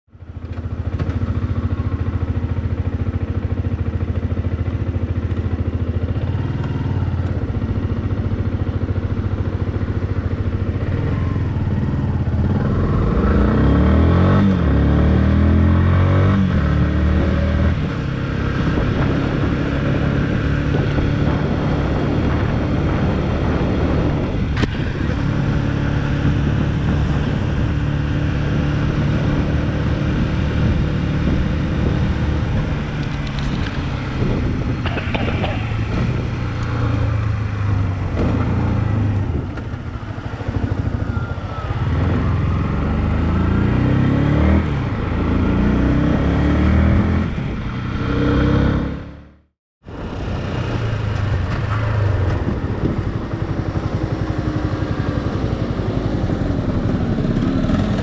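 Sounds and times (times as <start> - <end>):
motorcycle engine accelerating: 0.2 - 58.0.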